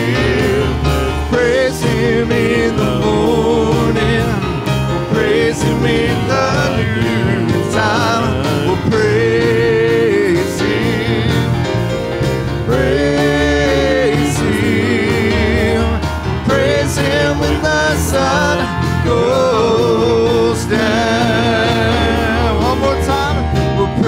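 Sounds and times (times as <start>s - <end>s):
worship band playing gospel: 0.0s - 24.0s.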